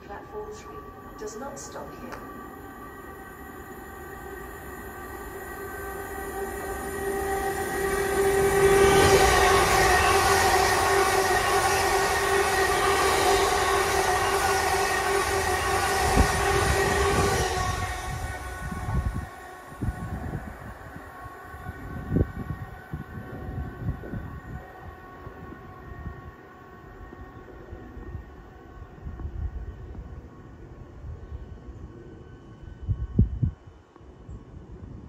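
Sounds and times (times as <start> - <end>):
train rushing past: 0.0 - 33.8
steady whine: 0.0 - 34.9.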